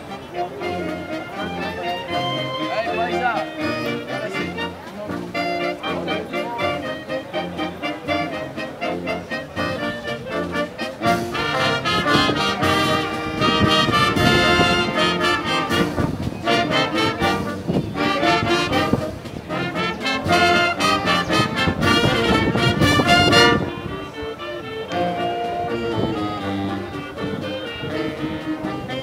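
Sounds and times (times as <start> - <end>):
trombones and trumpets: 0.0 - 29.0
wind band playing: 0.0 - 29.0.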